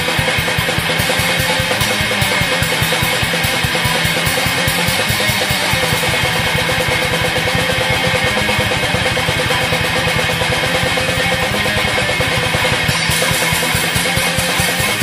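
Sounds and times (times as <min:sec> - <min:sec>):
distorted electric guitar: 0:00.0 - 0:15.0
fast drum hits: 0:00.0 - 0:15.0.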